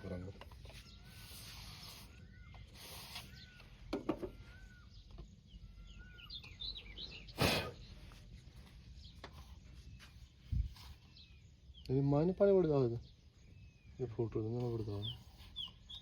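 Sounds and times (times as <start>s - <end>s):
birds whistling and chirping: 0.0s - 16.0s.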